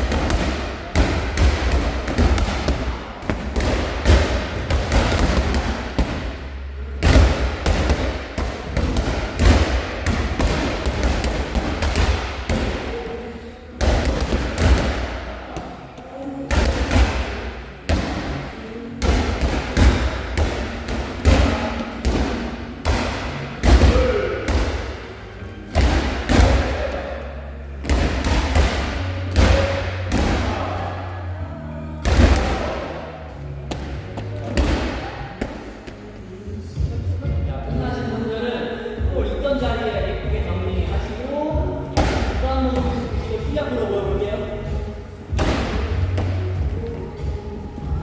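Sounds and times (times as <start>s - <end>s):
medicine balls thudding: 0.0s - 31.2s, 32.0s - 37.0s, 40.2s - 48.0s.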